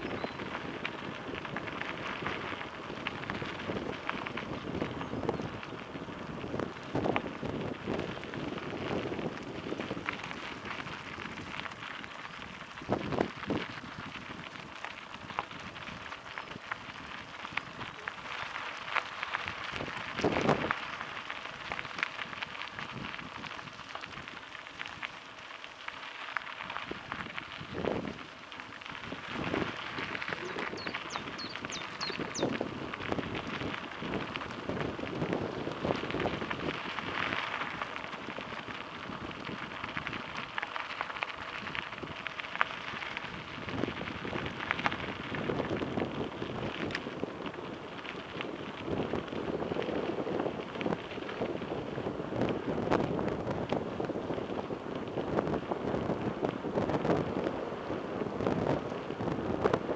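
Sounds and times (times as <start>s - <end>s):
bike tyres crackling over gravel: 0.0s - 59.9s.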